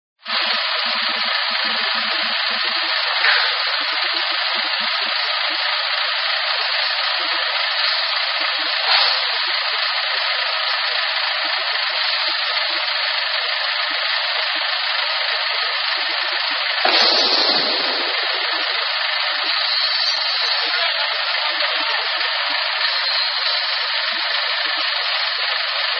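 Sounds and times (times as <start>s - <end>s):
hydraulic system hissing whir: 0.3s - 21.4s.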